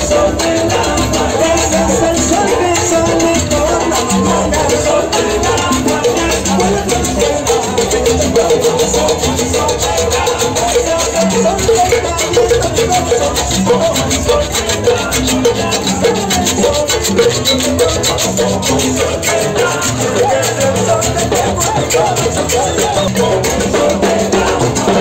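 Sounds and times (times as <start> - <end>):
salsa band playing: 0.0 - 25.0.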